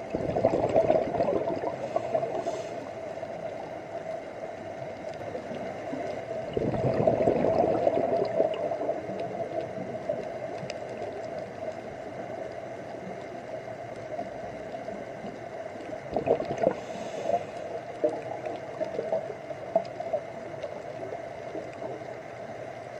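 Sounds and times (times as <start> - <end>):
diver's bubbles gurgling: 0.0 - 2.7, 4.8 - 12.3, 14.1 - 22.6
underwater hum: 0.0 - 22.9
faint scattered clicks: 2.1 - 6.5, 8.1 - 22.9.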